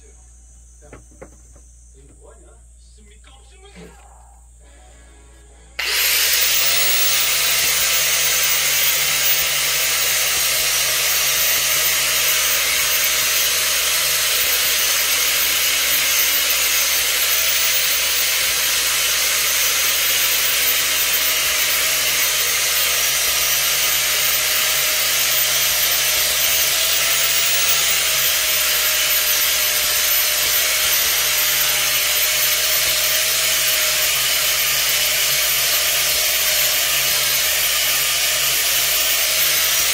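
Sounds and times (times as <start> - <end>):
electric motor blower whirring: 5.8 - 39.9.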